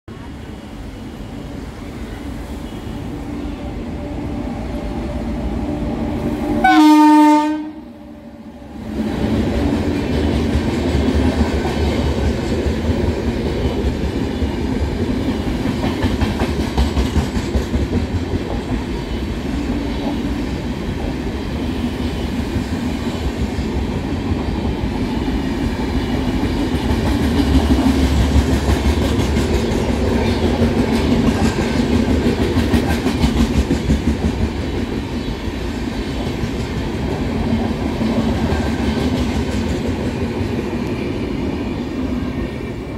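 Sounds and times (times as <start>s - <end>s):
train wheels rumbling on rails: 0.1s - 42.9s.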